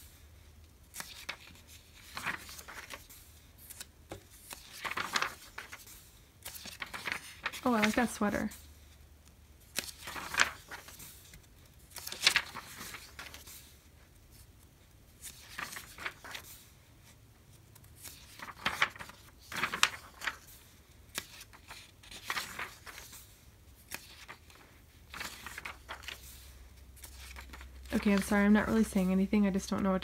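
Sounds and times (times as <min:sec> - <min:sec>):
magazine pages turning: 0:00.8 - 0:30.0.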